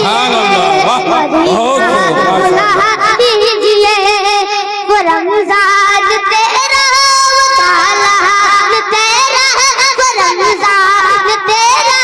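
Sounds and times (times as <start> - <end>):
child singing in a high voice: 0.0 - 12.0.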